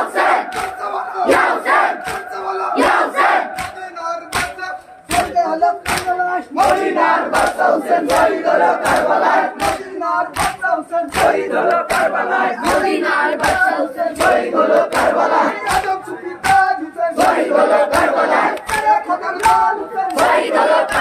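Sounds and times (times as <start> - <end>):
hands slapping chests: 0.0 - 21.0
men chanting a lament: 0.0 - 21.0.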